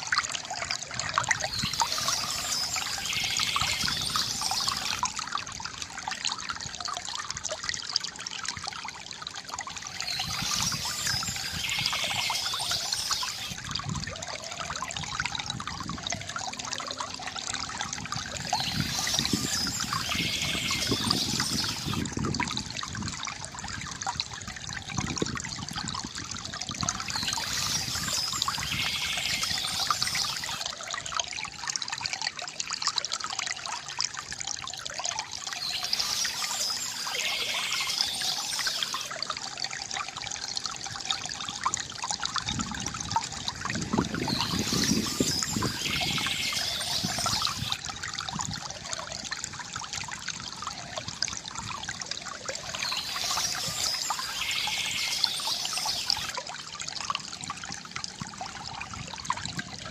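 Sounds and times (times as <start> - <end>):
stream water trickling and gurgling: 0.0 - 59.9.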